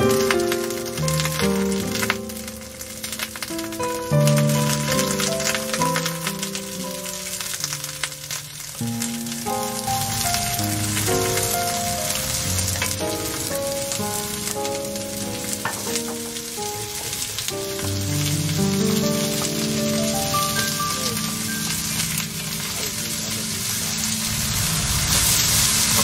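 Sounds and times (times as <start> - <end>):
melody of held notes: 0.0 - 26.0
vegetables sizzling in a frying pan: 0.0 - 26.0.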